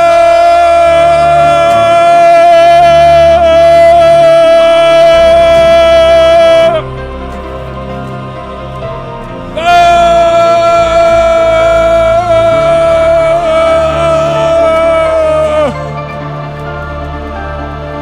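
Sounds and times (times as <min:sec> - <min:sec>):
voice singing a long high note: 0:00.0 - 0:07.0, 0:09.4 - 0:18.0
low musical accompaniment: 0:00.0 - 0:18.0.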